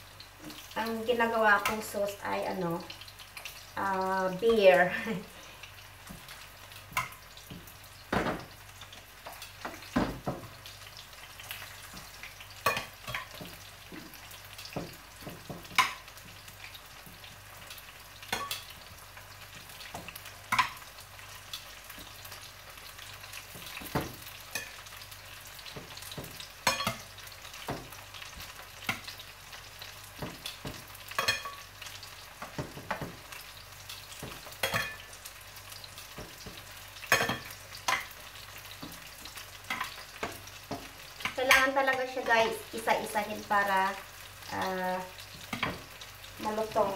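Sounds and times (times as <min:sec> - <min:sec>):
meat sizzling in frying pan: 0:00.0 - 0:46.9.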